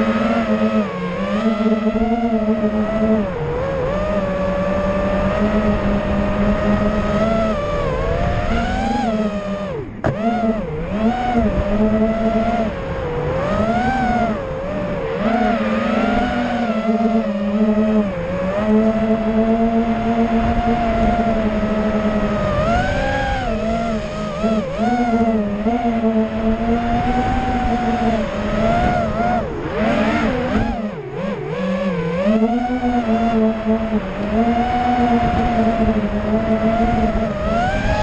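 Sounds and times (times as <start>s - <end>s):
quadcopter motors whining: 0.0s - 38.0s.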